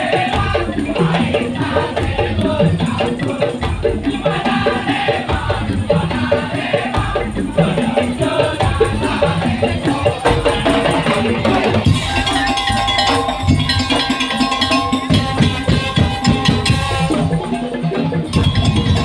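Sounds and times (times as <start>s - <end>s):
low drum beats: 0.0s - 19.0s
wooden and bamboo percussion: 0.0s - 19.0s.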